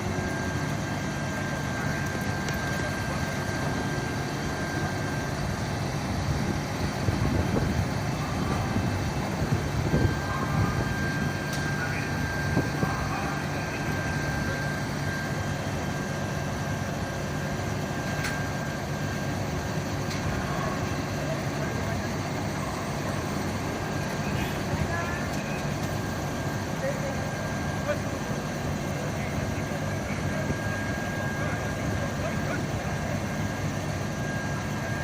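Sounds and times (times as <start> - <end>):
fire truck engine running: 0.0 - 35.0
thin high whine: 0.0 - 35.0.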